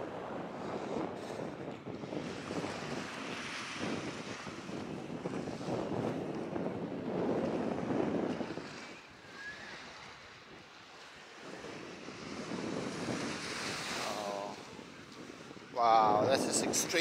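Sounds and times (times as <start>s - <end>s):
small waves washing on shore: 0.0s - 17.0s
wind buffeting microphone: 0.0s - 17.0s.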